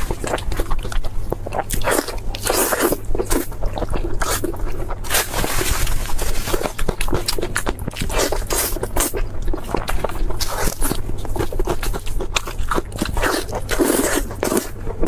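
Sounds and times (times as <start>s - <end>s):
crunchy food being chewed: 0.0s - 15.0s.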